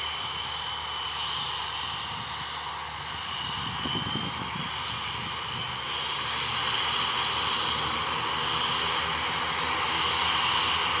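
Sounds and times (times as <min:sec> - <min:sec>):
turboprop engines whining: 0:00.0 - 0:11.0.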